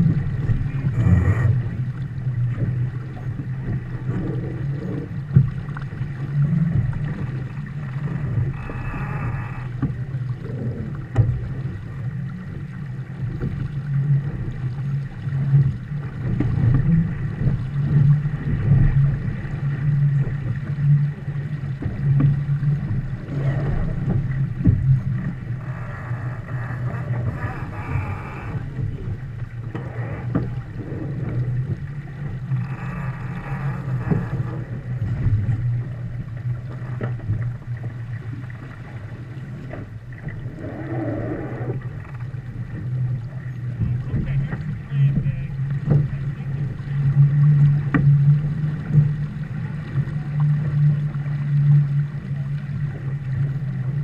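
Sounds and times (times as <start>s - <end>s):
water rushing past boat: 0.0s - 54.0s.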